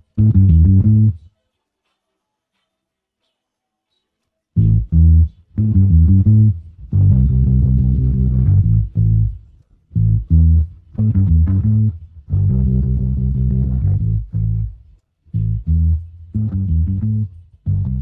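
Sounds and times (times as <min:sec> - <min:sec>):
bass guitar playing: 0:00.0 - 0:01.3, 0:04.6 - 0:18.0.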